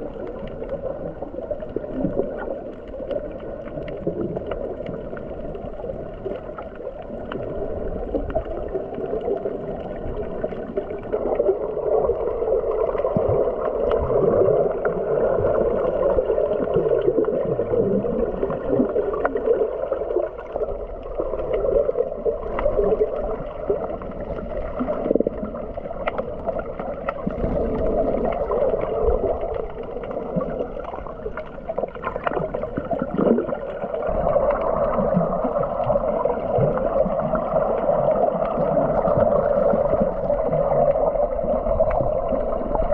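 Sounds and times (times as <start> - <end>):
muffled underwater rush: 0.0 - 42.9
water gurgling: 0.0 - 42.9.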